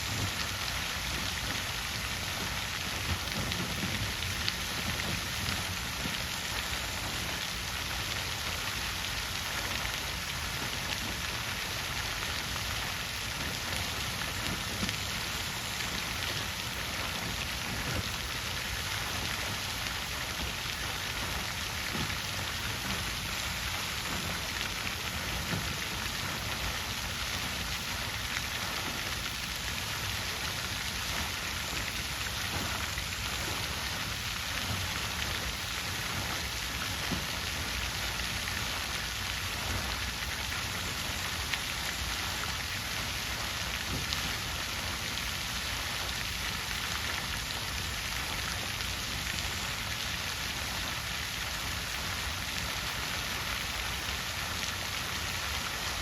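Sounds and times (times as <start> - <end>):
water fountain splashing: 0.0 - 56.0.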